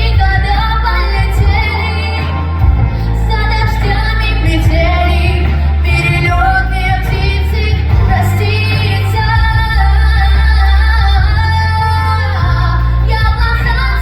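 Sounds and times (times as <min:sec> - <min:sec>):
backing track with bass and beat: 0:00.0 - 0:14.0
girl singing: 0:00.0 - 0:14.0.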